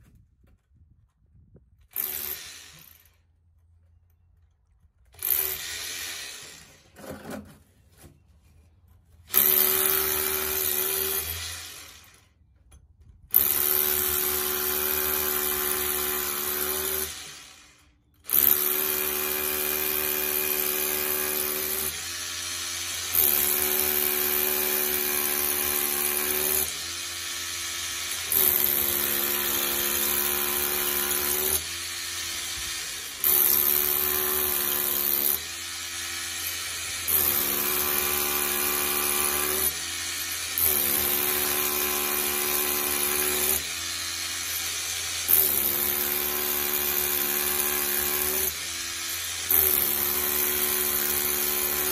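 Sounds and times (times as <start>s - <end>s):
hammer drill boring into concrete: 1.8s - 3.3s, 5.1s - 7.4s, 9.3s - 12.4s, 13.3s - 51.9s.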